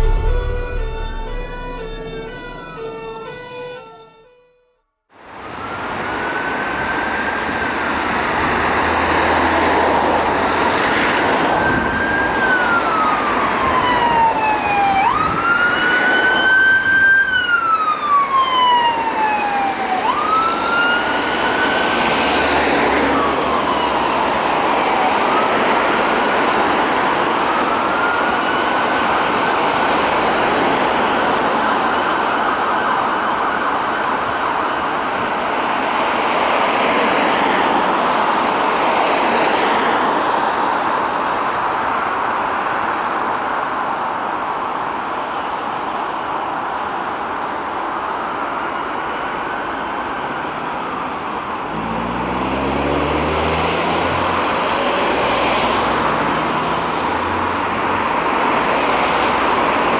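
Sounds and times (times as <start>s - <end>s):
ambulance siren wailing: 0.0s - 4.6s, 5.3s - 40.1s, 47.4s - 59.9s
road traffic noise: 0.0s - 59.9s.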